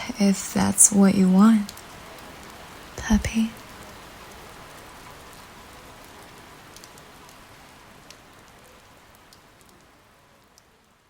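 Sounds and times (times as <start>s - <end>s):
raindrop ticks: 0.0s - 10.7s
steady rain: 0.0s - 11.0s.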